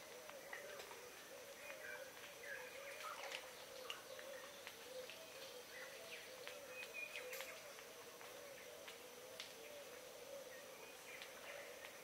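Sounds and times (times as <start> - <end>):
faint birdsong low arching notes: 0.0 - 12.0.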